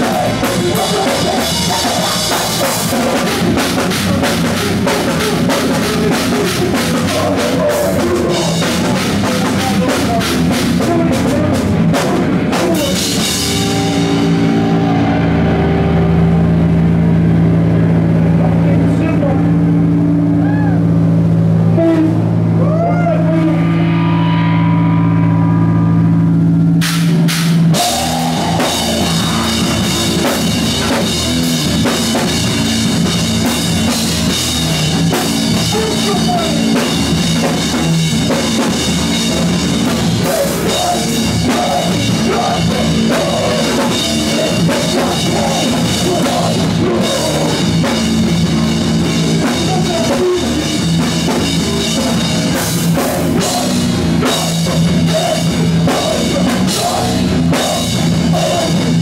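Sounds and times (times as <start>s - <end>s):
drum kit: 0.0s - 59.0s
live rock band playing: 0.0s - 59.0s.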